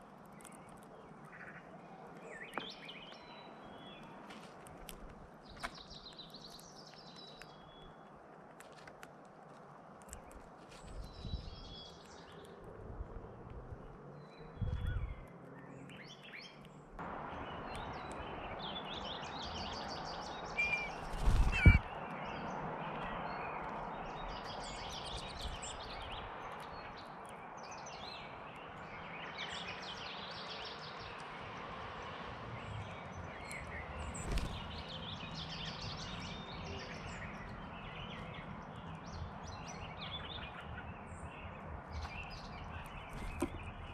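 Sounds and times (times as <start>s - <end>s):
songbirds chirping and singing: 0.0s - 8.3s, 10.0s - 43.9s.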